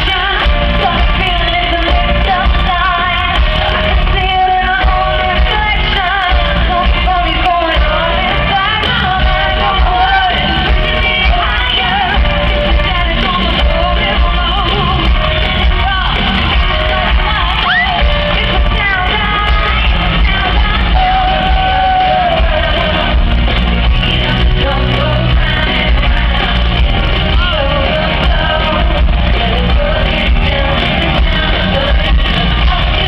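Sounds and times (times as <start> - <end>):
crowd yelling and screaming: 0.0 - 33.0
live pop band playing: 0.0 - 33.0
women singing: 0.0 - 33.0.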